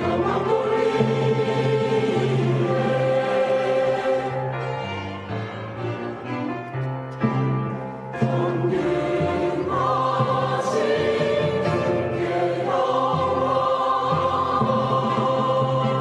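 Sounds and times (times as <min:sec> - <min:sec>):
choir singing: 0:00.0 - 0:06.6, 0:07.2 - 0:16.0
orchestral accompaniment: 0:00.0 - 0:16.0.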